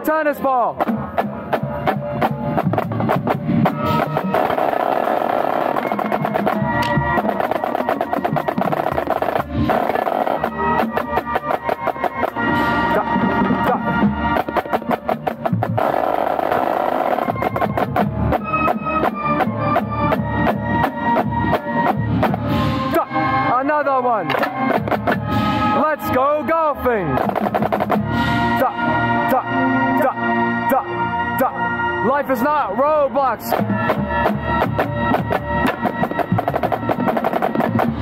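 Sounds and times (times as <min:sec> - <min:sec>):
marching band held notes: 0:00.0 - 0:38.0
snare drum strokes and rolls: 0:00.4 - 0:23.1, 0:23.8 - 0:28.7, 0:32.4 - 0:38.0.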